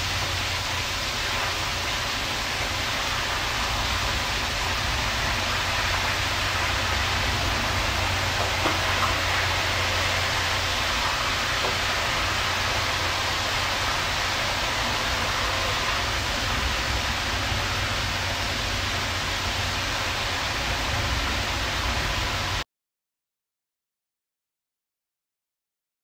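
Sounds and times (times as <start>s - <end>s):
low hum: 0.0s - 22.6s
shrimp sizzling in frying pan: 0.0s - 22.6s.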